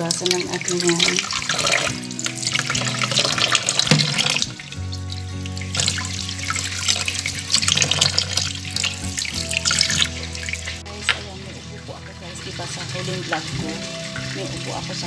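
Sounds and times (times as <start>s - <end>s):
leaves rinsed by hand: 0.0s - 15.0s
tap water splashing in sink: 0.0s - 15.0s.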